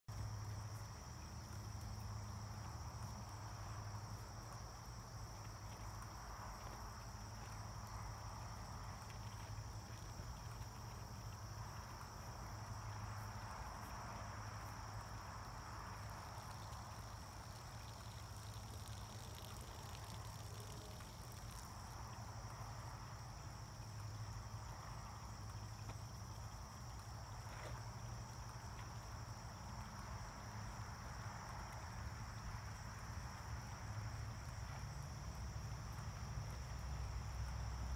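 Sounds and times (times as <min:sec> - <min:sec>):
insects chirring: 0:00.1 - 0:37.9.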